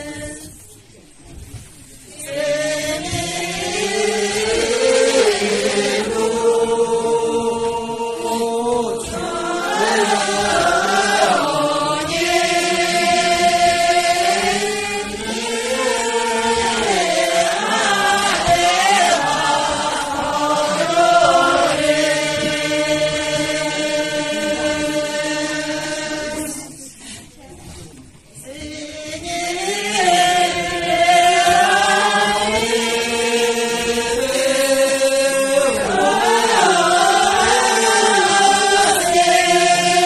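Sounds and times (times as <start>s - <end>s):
group singing in unison: 0.0s - 0.7s, 1.6s - 40.0s.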